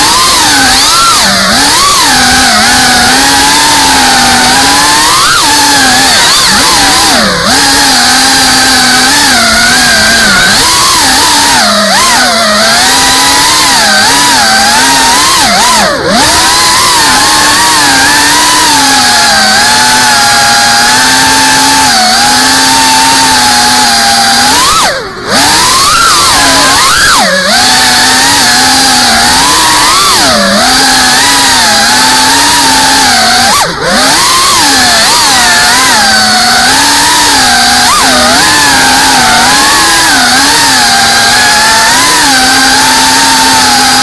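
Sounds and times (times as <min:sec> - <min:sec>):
quadcopter motors whining: 0:00.0 - 0:44.0.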